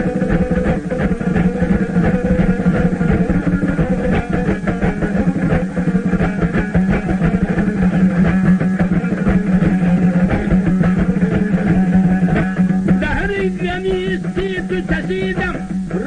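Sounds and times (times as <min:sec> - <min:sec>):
plucked string instruments: 0:00.0 - 0:16.0.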